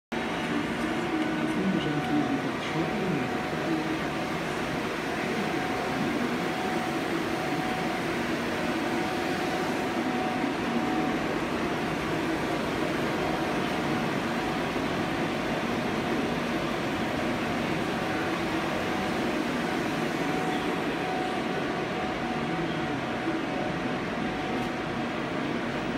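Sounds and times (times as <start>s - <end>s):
lathe mechanical hum: 0.2s - 25.9s.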